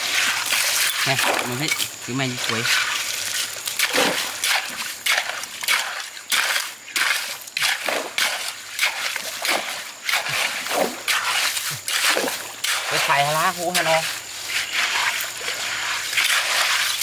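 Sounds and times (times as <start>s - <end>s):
hoe scraping wet gravel: 0.0s - 17.0s
stones grating and rattling: 0.0s - 17.0s
water splashing: 0.0s - 17.0s.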